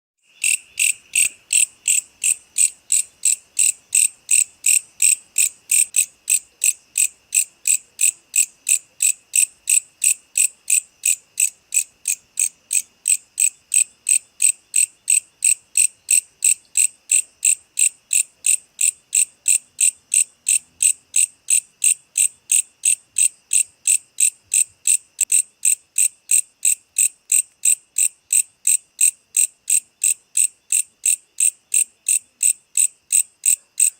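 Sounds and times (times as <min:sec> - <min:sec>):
insect chirping: 0:00.2 - 0:33.9.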